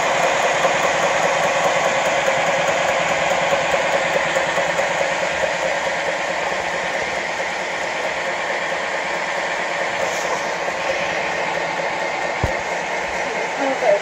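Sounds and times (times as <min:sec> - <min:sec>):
steam exhaust hissing: 0:00.0 - 0:14.0.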